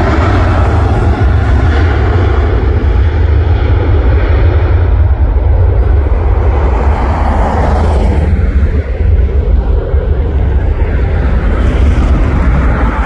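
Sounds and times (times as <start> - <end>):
jet engines roaring at takeoff: 0.0 - 13.0.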